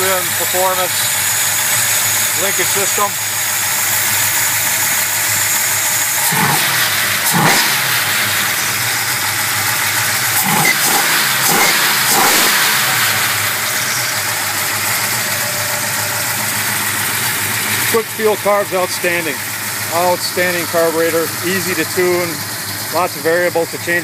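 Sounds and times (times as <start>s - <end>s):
engine idling and revving: 0.0s - 24.0s.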